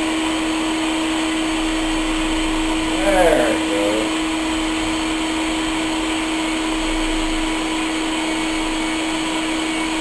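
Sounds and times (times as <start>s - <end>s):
electric air pump humming: 0.0s - 10.0s.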